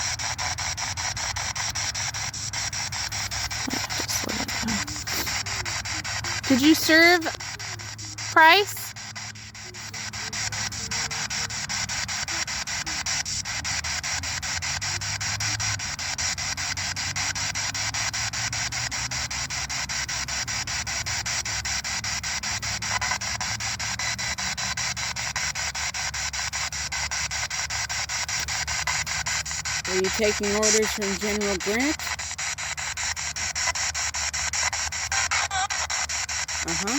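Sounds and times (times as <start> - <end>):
radio static with rapid clicks: 0.0 - 36.9.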